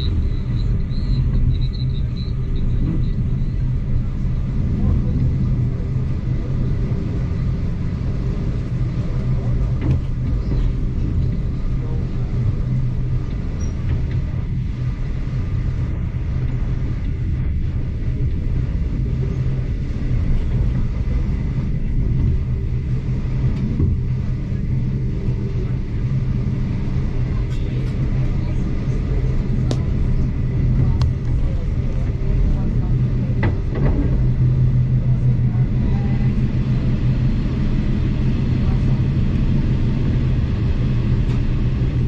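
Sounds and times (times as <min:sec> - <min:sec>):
train rumbling inside carriage: 0:00.0 - 0:42.0.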